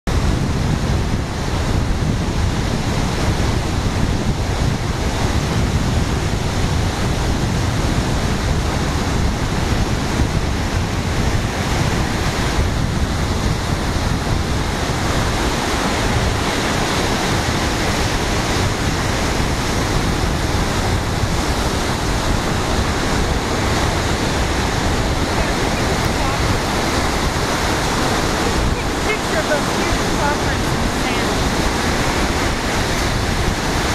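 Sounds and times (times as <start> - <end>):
surf breaking on beach: 0.1 - 33.9
wind buffeting microphone: 0.1 - 33.9.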